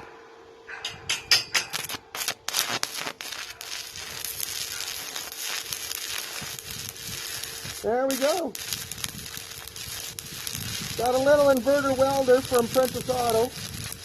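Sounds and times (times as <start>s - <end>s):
welding arc crackling: 1.3s - 14.0s.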